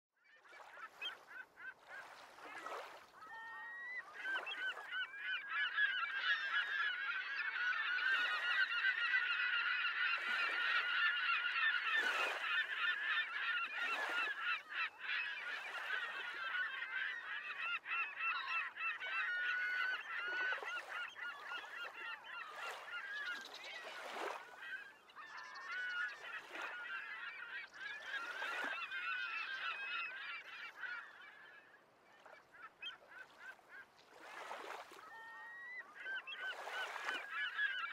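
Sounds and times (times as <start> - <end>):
flock of birds calling: 0.4 - 37.9.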